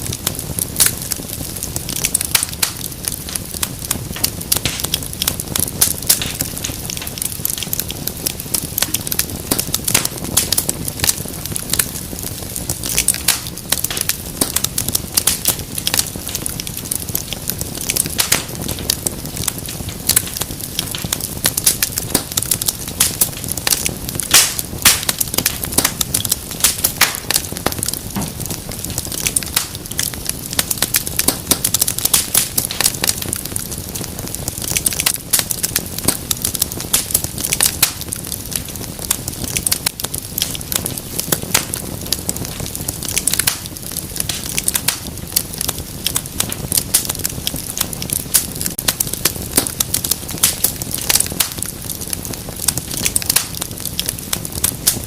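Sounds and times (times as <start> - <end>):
low rush of burning logs: 0.0 - 55.0
wood fire crackling: 0.0 - 55.0.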